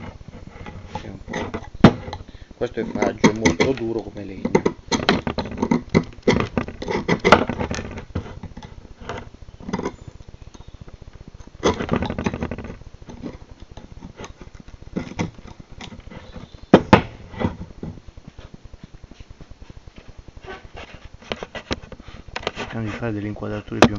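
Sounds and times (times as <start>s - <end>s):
knife scraping wood: 0.0s - 10.1s, 11.4s - 18.0s, 20.4s - 23.1s.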